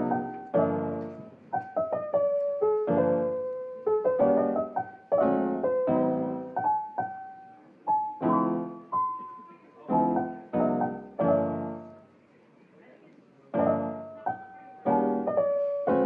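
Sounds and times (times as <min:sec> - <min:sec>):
piano music: 0:00.0 - 0:12.2, 0:13.5 - 0:16.0.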